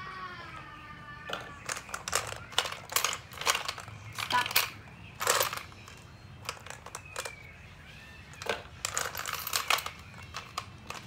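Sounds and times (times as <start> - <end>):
toy gumball machine clicks and rattles: 1.3 - 11.0.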